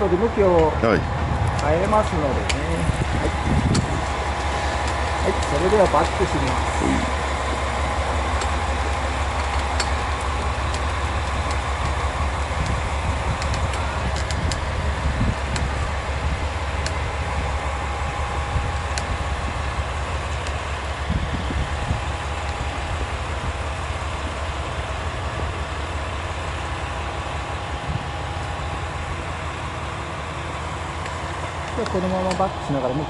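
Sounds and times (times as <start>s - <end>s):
diesel railcar engine idling: 0.0s - 33.0s.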